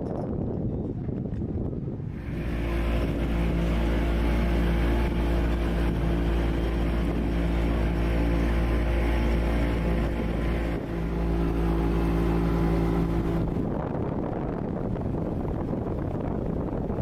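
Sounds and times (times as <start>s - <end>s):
engine running with deep rumble: 0.0s - 17.0s.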